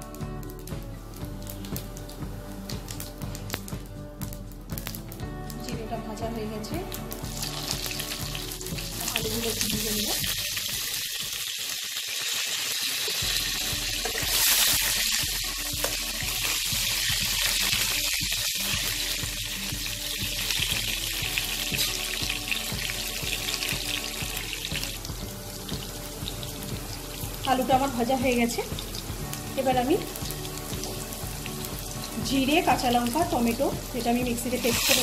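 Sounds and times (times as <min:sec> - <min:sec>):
potatoes sizzling in hot oil: 0:00.0 - 0:35.0.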